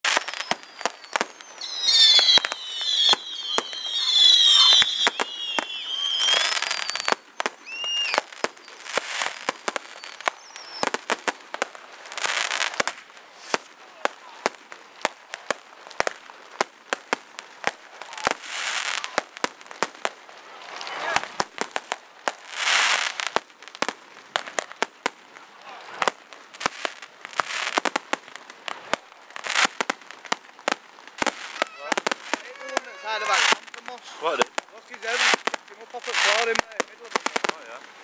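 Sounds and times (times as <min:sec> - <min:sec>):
fireworks bangs and pops: 0:00.0 - 0:38.0
fireworks hiss: 0:00.0 - 0:38.0
whistling fireworks: 0:00.0 - 0:38.0.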